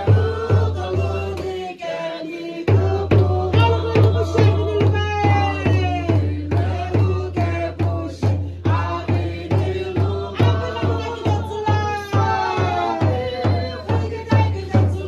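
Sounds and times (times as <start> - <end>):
music with steady drum beat: 0.0 - 1.7, 2.5 - 15.0.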